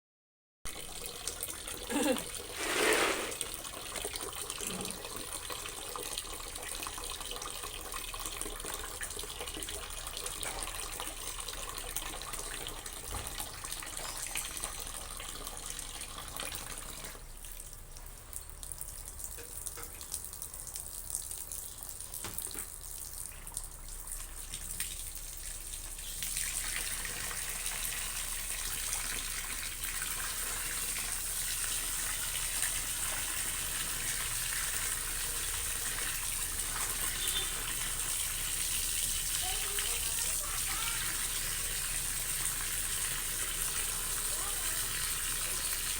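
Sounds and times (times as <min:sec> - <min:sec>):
tap water running into basin: 0:00.7 - 0:45.9
laundry washed by hand: 0:01.1 - 0:17.6, 0:21.8 - 0:45.9.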